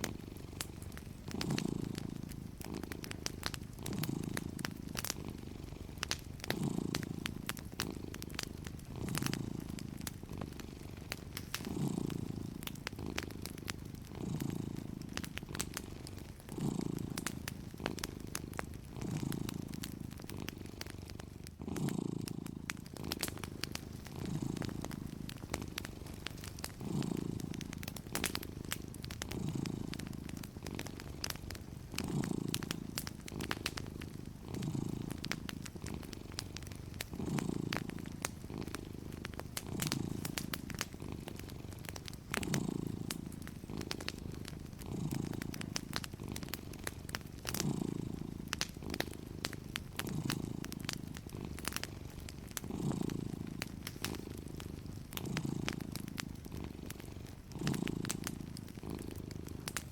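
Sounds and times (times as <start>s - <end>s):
cat purring: 0.0s - 59.9s
wood fire popping and crackling: 0.0s - 59.9s.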